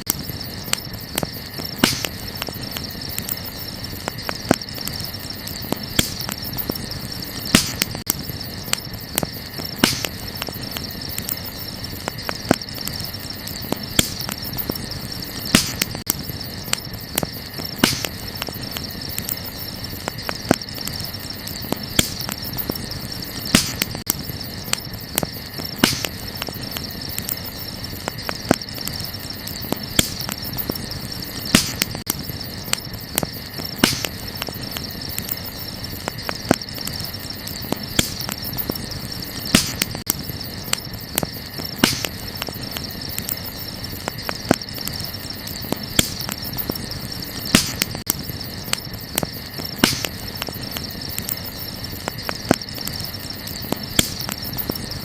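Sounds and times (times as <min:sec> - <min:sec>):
crickets chirring: 0:00.0 - 0:55.0
wood fire crackling: 0:00.0 - 0:55.0.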